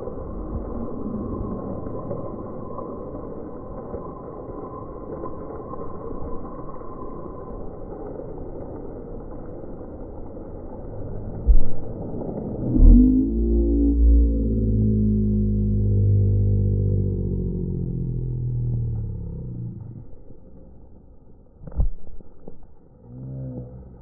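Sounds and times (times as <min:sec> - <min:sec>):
steady rain on concrete: 0:00.0 - 0:24.0.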